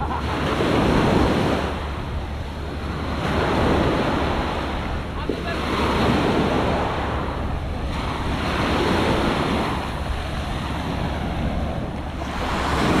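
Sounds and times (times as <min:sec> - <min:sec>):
wind rumbling on microphone: 0:00.0 - 0:13.0
small waves breaking on sand: 0:00.2 - 0:13.0.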